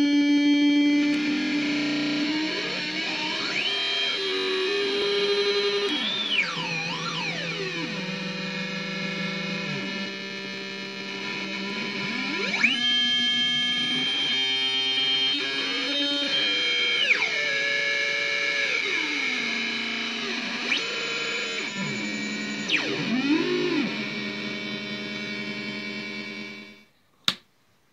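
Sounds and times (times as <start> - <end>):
synthesizer drone with sliding pitches: 0.0 - 26.7.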